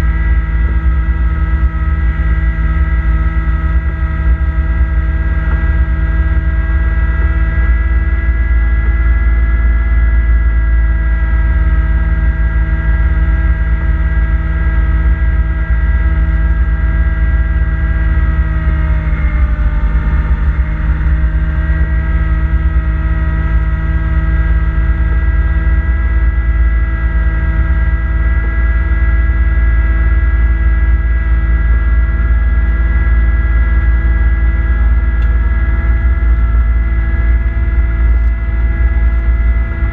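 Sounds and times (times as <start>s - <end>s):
steady whine: 0.0s - 39.9s
tractor diesel engine running: 0.0s - 39.9s.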